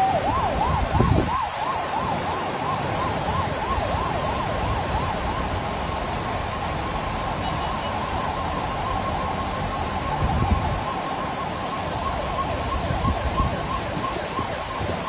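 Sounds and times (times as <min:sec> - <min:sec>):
siren yelping: 0:00.0 - 0:15.0.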